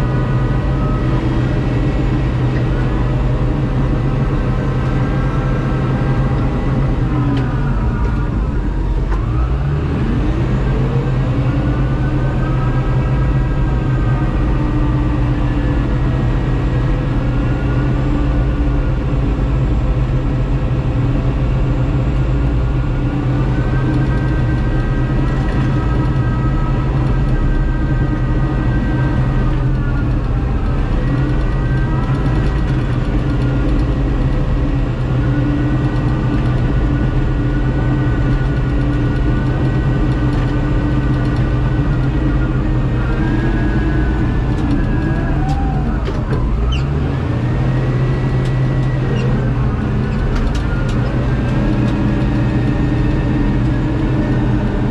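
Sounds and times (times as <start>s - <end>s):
diesel engine running with whine: 0.0s - 54.9s.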